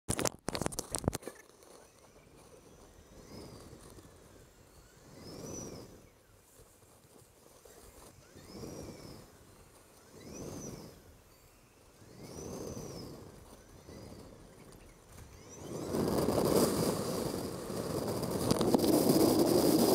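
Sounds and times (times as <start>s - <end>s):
tyre and air noise: 0.2s - 19.9s
electric motorcycle motor whining: 1.0s - 19.9s.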